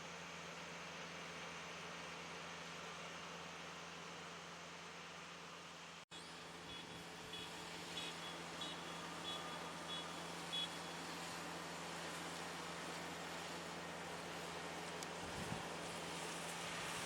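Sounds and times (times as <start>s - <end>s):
combine harvester engine hum: 0.0s - 17.0s.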